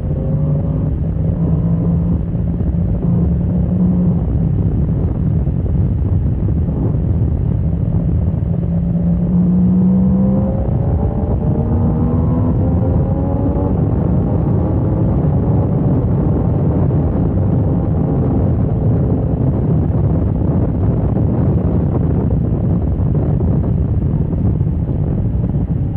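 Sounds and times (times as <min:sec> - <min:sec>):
wind rumble on microphone: 0:00.0 - 0:25.9.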